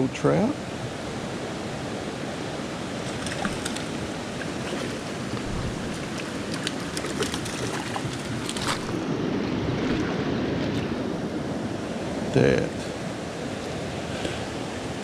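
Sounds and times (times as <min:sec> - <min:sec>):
creek water rushing: 0:00.6 - 0:15.0.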